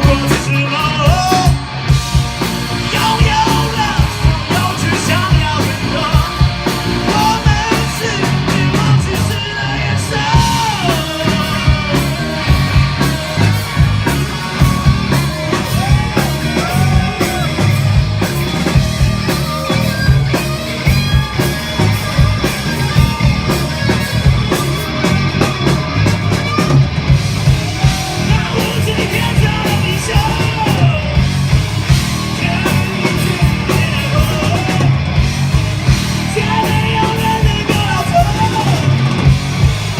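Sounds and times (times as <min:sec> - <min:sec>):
person shouting and singing: 0:00.0 - 0:02.0, 0:02.7 - 0:39.3
live rock band playing: 0:00.0 - 0:39.9.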